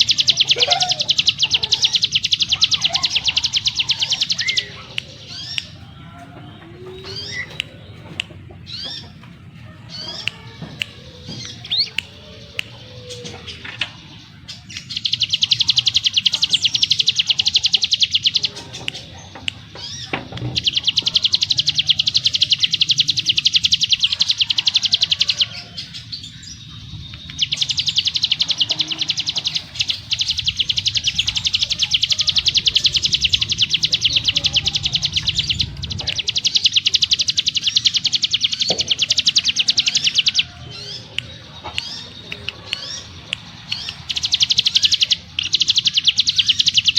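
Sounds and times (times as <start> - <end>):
fast high bird trills: 0.0 - 5.8, 14.6 - 46.9
bird chirping: 0.0 - 46.9.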